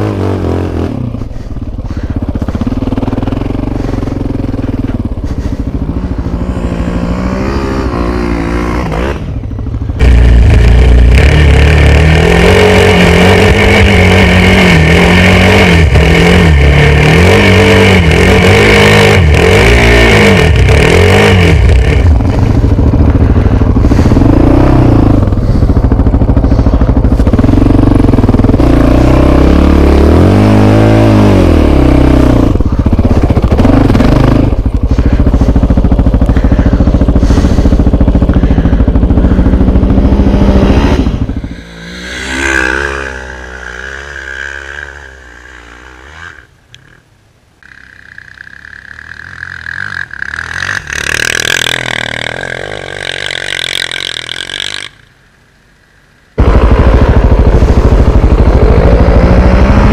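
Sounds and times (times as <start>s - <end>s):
quad bike engine revving: 0.0s - 55.2s, 56.3s - 59.9s.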